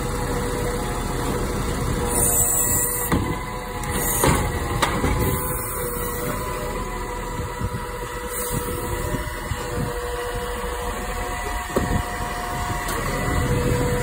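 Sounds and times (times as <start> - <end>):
garbage truck diesel engine rumbling: 0.0 - 14.0
hydraulic whine: 0.0 - 14.0.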